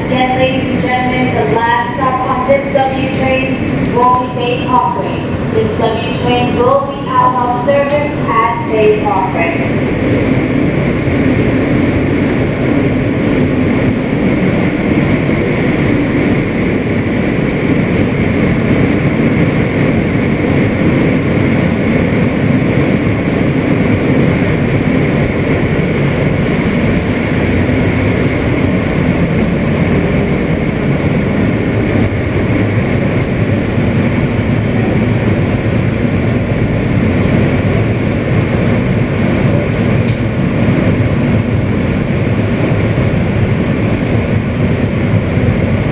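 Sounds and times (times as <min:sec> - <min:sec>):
wheels rumbling on track: 0:00.0 - 0:45.9.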